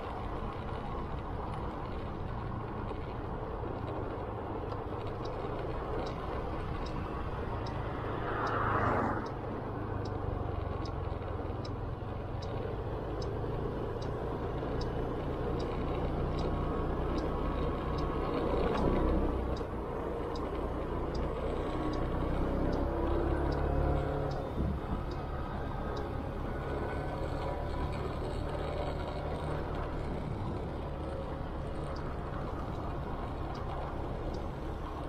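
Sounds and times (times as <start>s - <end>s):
faint regular tick: 0.0s - 35.0s
wind and road noise: 0.0s - 35.0s.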